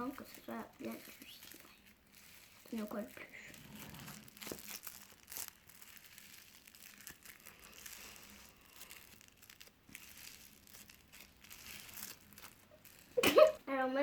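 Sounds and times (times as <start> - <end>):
slime crackling and squishing: 0.0 - 14.0.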